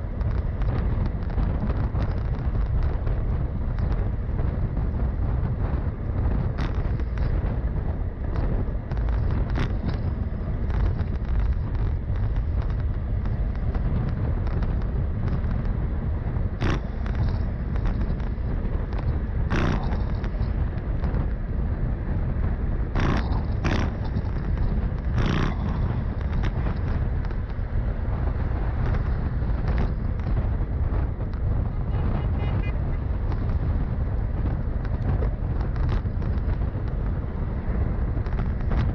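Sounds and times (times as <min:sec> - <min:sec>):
road traffic noise: 0:00.0 - 0:38.9
wind buffeting microphone: 0:00.0 - 0:38.9.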